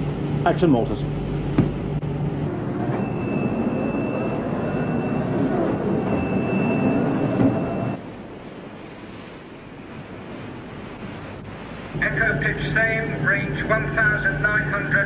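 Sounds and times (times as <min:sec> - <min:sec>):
rumbling ship noise: 0:00.0 - 0:15.0.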